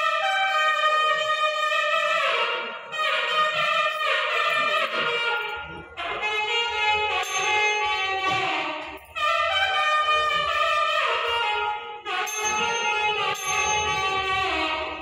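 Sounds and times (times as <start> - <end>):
reedy wind instrument melody: 0.0 - 15.0.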